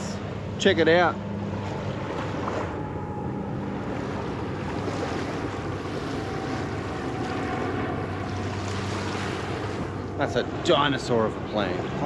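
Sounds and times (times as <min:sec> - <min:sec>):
jet airliner rumble: 0:00.0 - 0:12.0
small waves washing: 0:00.0 - 0:12.0.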